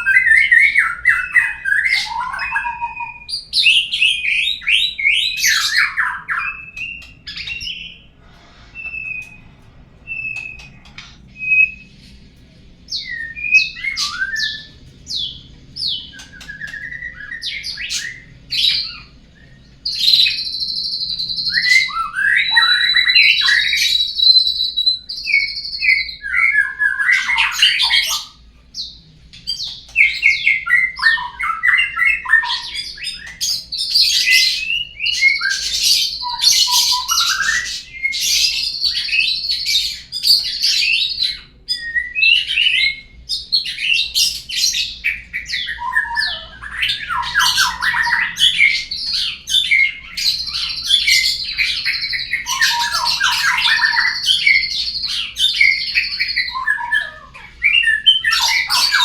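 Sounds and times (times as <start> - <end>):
bird whistles and chirps: 0.0 - 12.3, 12.9 - 59.0.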